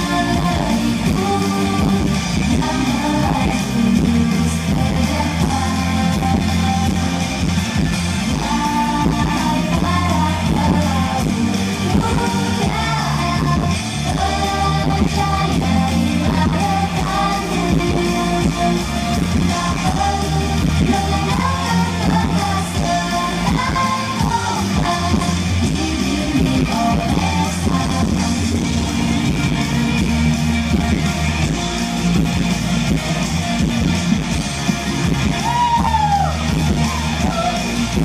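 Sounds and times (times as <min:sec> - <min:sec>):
girl group singing: 0:00.0 - 0:31.5
pop band with keyboards: 0:00.0 - 0:38.0.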